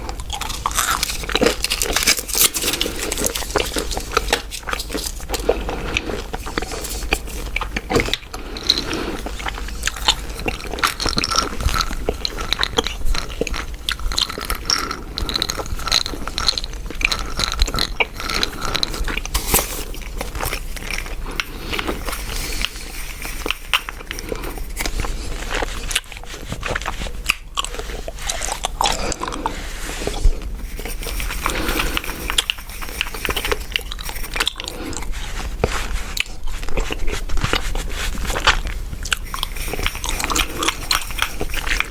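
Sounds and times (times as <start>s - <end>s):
gum chewing clicks and smacks: 0.0s - 41.9s.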